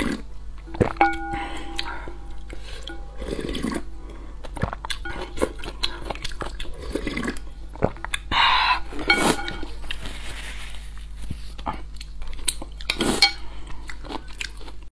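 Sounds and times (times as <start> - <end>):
chewing and slurping noodles: 2.4 - 14.9.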